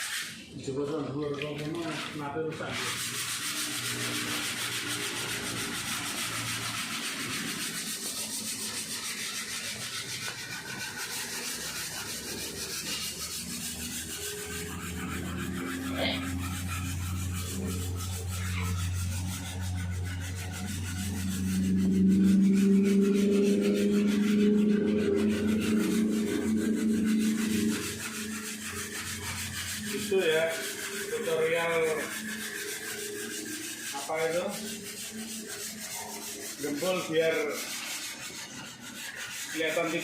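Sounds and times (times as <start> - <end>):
sandpaper rubbing on filler: 0.0 - 40.0.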